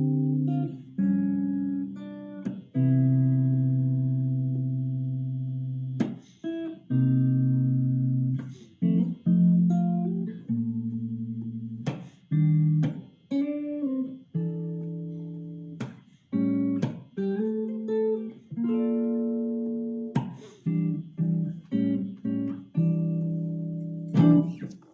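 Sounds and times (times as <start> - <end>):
solo guitar playing: 0.0 - 24.9.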